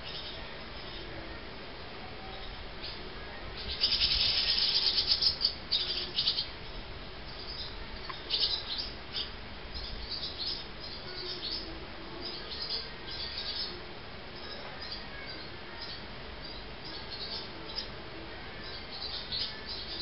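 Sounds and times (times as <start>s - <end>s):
swallow chicks chirping: 2.3s - 13.8s, 14.4s - 18.0s, 18.6s - 20.0s.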